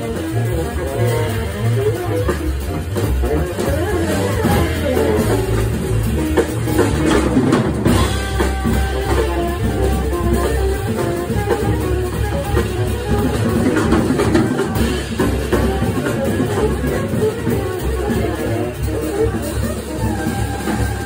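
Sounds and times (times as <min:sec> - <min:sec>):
busy drum kit: 0:00.0 - 0:21.0
low bass: 0:00.0 - 0:21.0
tenor saxophone melody: 0:00.0 - 0:21.0.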